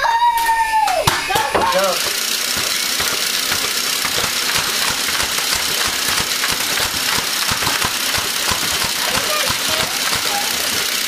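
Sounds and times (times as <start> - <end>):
toy helicopter rotors whirring: 1.2 - 11.0.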